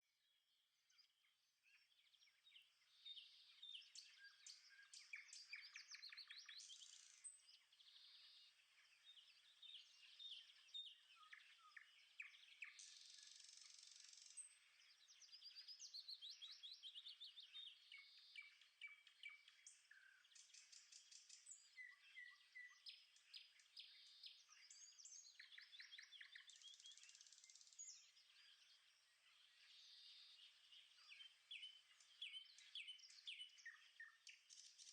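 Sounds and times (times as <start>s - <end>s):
songbirds singing and chirping: 0.0s - 34.9s.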